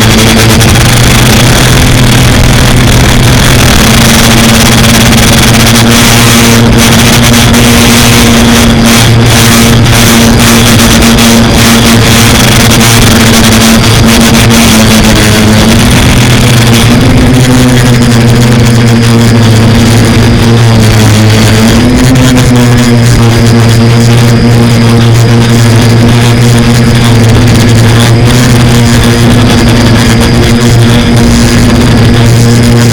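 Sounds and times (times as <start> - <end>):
quadcopter motors buzzing: 0.0 - 32.9.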